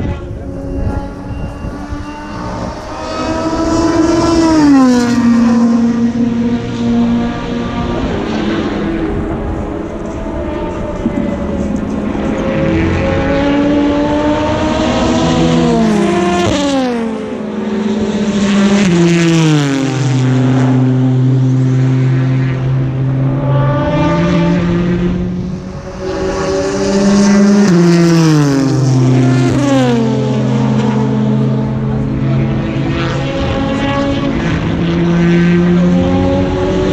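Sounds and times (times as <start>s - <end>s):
race cars passing at speed: 0.0s - 36.9s.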